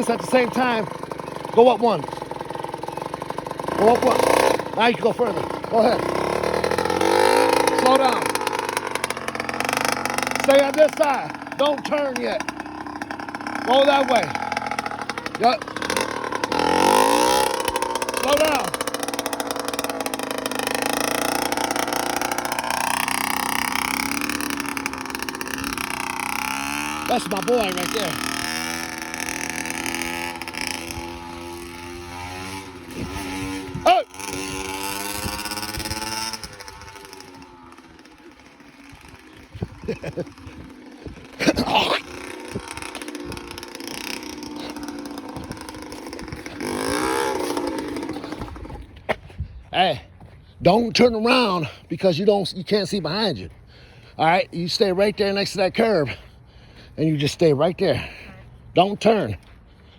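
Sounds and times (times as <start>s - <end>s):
dirt bike two-stroke engine: 0.0s - 59.9s.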